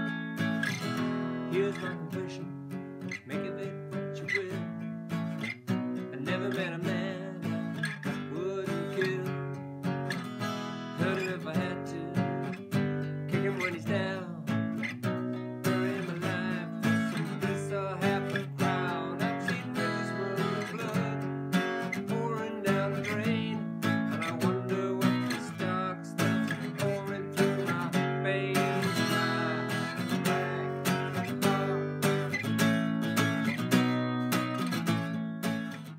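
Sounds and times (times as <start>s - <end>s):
acoustic guitar strumming: 0.0s - 35.9s.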